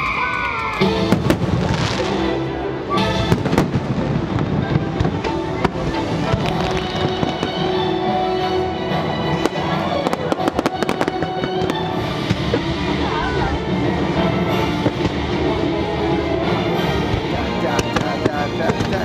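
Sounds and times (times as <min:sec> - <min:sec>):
orchestral music: 0:00.0 - 0:19.0
fireworks cracking: 0:00.6 - 0:19.0.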